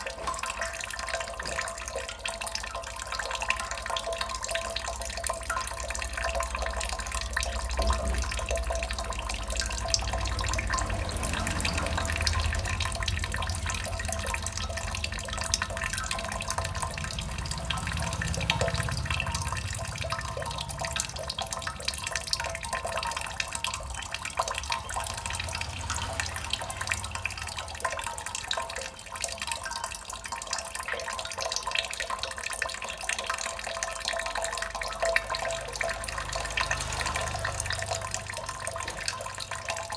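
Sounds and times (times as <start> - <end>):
water drops splashing: 0.0 - 39.9
water trickling: 0.0 - 39.9.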